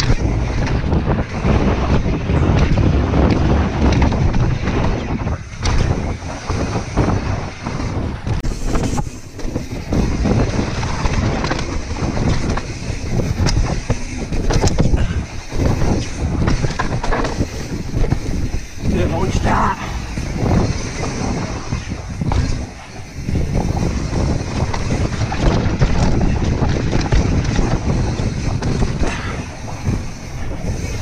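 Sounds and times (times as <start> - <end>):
bike knocking and rattling: 0.0 - 31.0
bike tyre noise: 0.0 - 31.0
wind rumble on microphone: 0.0 - 31.0.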